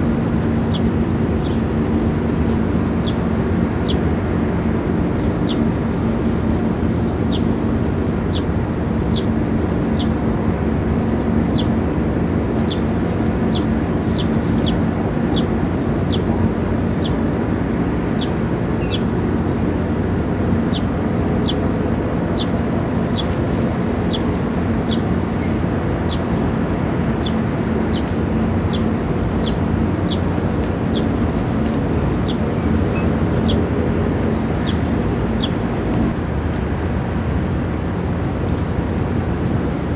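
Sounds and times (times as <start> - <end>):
mechanical drone with low hum: 0.0 - 39.9.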